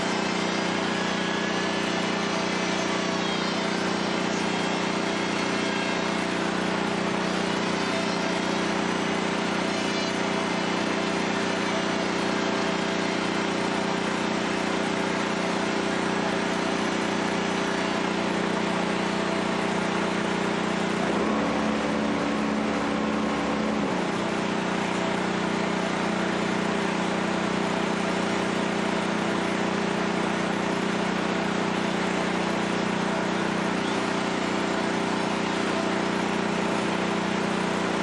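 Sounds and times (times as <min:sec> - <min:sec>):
generator engine running: 0:00.0 - 0:38.0.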